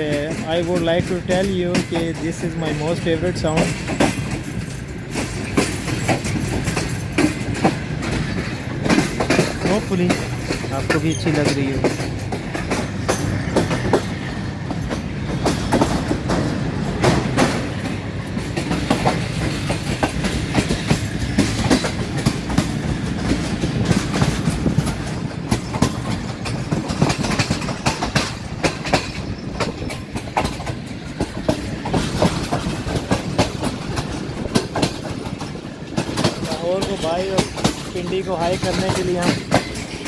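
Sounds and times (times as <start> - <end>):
low train rumble: 0.0 - 40.0
train wheels clattering over rail joints: 0.0 - 40.0.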